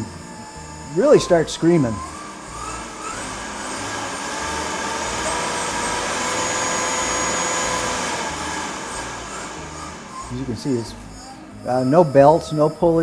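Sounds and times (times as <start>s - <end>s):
drill press motor whine: 0.0s - 13.0s.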